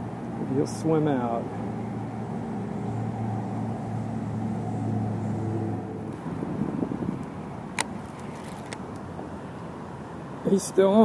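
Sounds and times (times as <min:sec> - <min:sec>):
low engine hum: 0:00.0 - 0:10.6.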